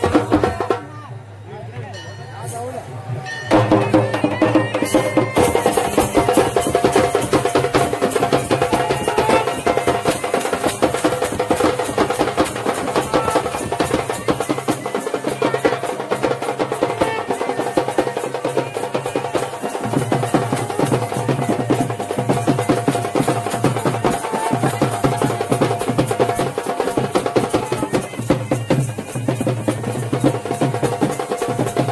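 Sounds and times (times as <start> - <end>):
barrel drum beats: 0.0 - 1.1, 3.2 - 31.9
folk band playing: 3.5 - 31.9.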